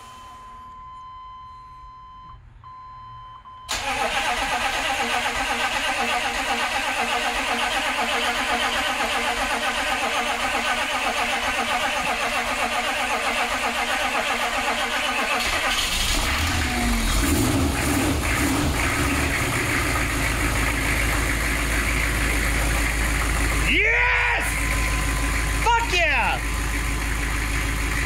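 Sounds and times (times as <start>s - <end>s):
diesel engine cranking on starter: 3.6s - 28.0s.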